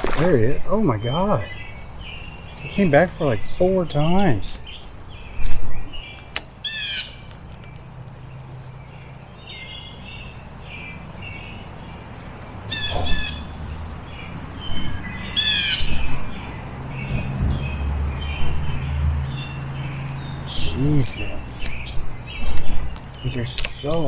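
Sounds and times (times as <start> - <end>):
rough downward-sliding bird calls: 0.9 - 23.9.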